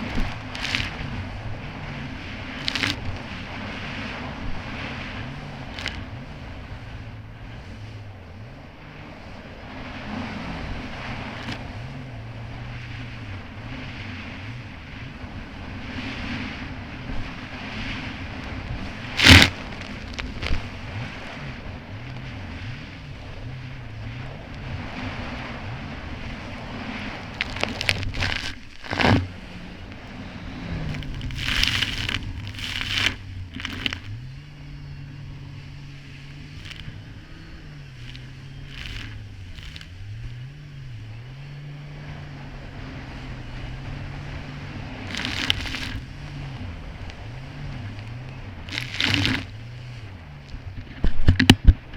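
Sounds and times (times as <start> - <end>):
jet ski engine running: 0.0 - 51.9
rush of wind and water: 0.0 - 51.9.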